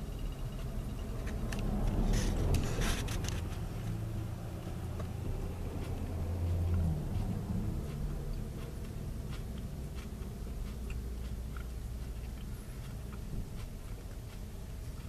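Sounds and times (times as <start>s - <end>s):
low engine hum: 0.0s - 15.0s
vehicles driving past: 0.0s - 15.0s.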